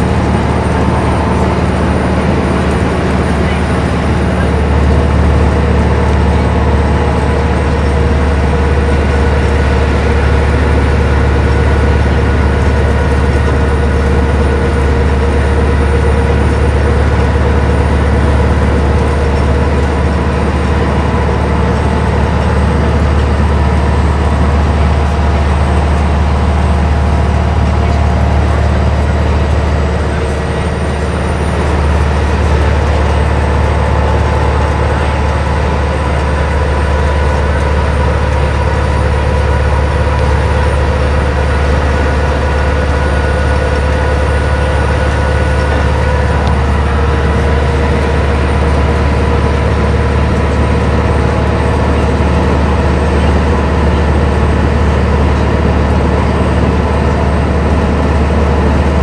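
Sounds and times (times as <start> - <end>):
bus engine droning: 0.0 - 59.0
road and tyre noise: 0.0 - 59.0.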